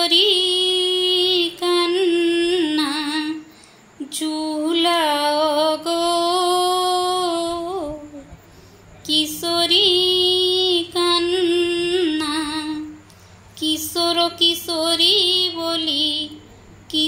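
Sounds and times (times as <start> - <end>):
woman singing devotional song: 0.0 - 17.0.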